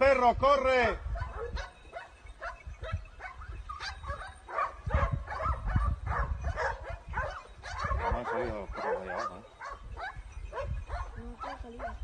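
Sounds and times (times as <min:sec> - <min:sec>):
dogs barking: 0:01.0 - 0:12.0.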